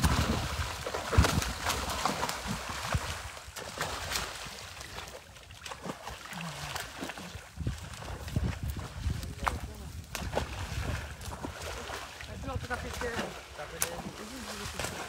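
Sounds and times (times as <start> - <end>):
fish splashing in water: 0.0 - 15.0.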